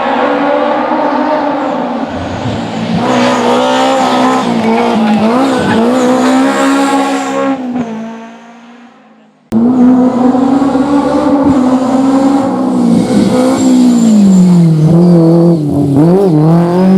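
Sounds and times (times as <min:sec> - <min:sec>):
rally car engine at full throttle: 0:00.0 - 0:16.9.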